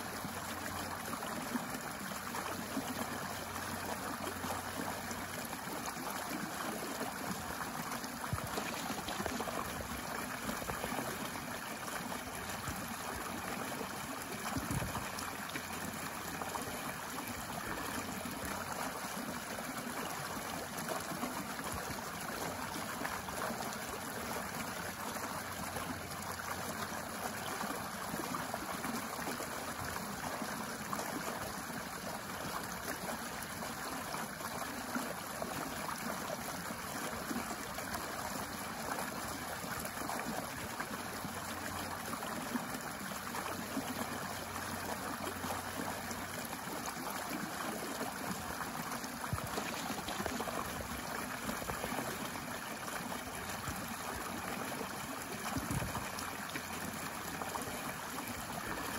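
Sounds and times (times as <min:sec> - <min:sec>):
stream splashing over rocks: 0:00.0 - 0:58.9.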